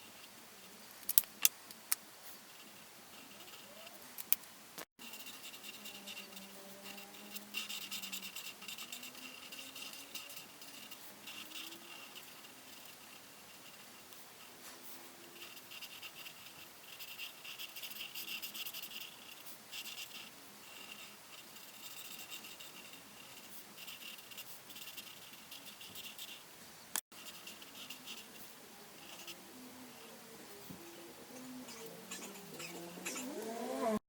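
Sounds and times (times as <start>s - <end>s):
coloring strokes scratching on paper: 2.2s - 4.3s, 5.0s - 34.0s.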